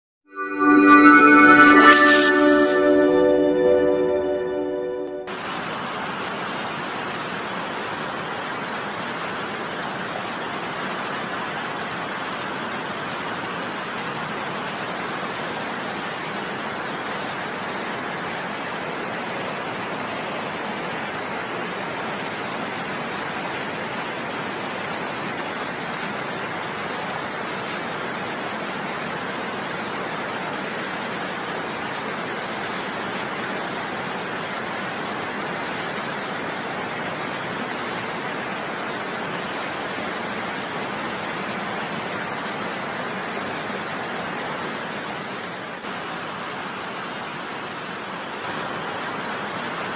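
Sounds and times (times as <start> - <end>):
waterfall and stream rushing: 5.4 - 49.9.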